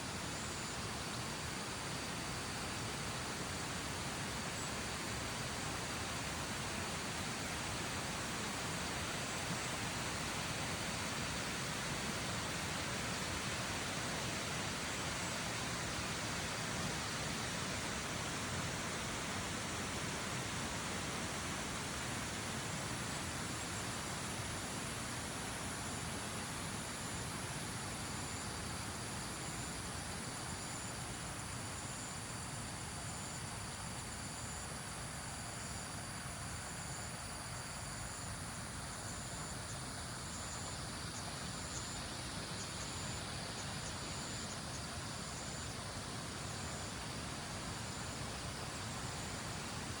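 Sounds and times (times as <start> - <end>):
crickets trilling: 0.0 - 50.0.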